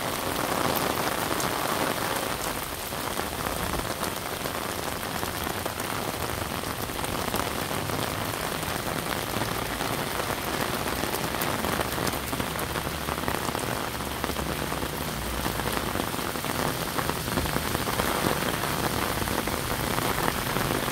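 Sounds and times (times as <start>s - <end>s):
heavy rain splashing on road: 0.0s - 20.9s.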